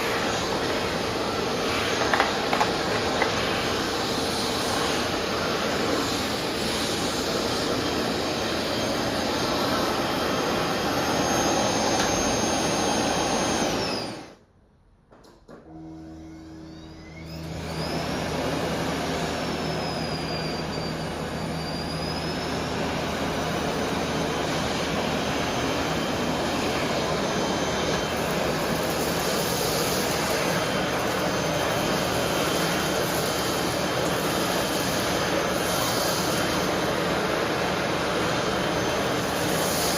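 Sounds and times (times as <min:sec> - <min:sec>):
vacuum cleaner running: 0:00.0 - 0:14.5, 0:15.6 - 0:39.9.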